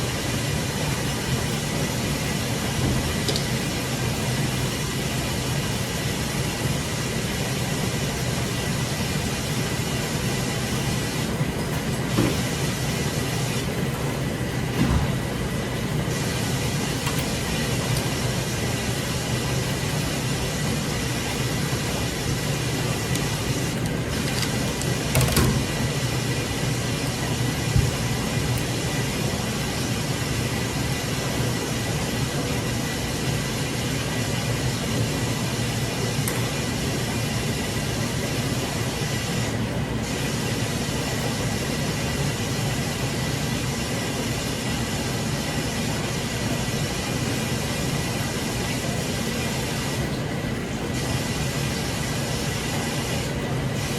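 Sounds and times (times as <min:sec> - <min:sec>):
loud mechanical rumble and hiss: 0:00.0 - 0:53.9.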